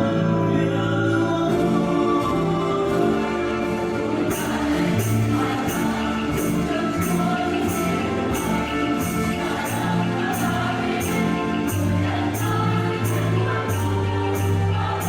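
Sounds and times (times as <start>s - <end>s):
hymn music: 0.0s - 15.0s.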